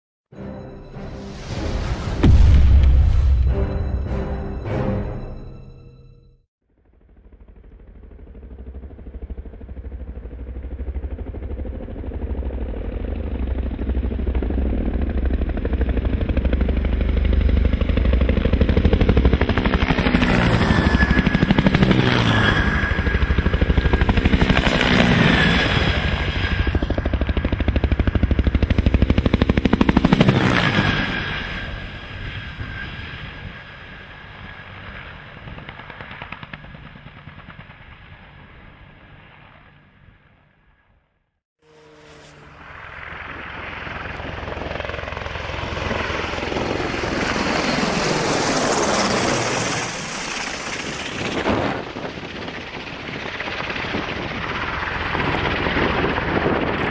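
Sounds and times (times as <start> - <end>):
helicopters passing low: 3.5 - 41.0, 41.6 - 56.9.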